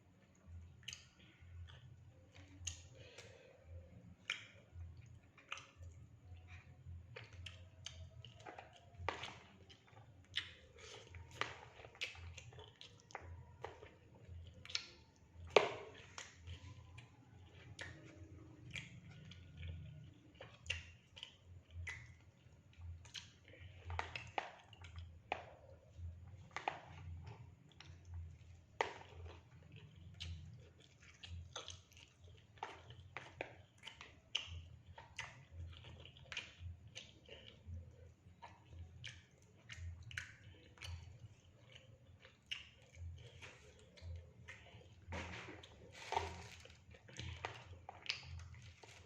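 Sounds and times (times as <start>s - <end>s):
chewing with wet mouth clicks: 0.2s - 49.0s.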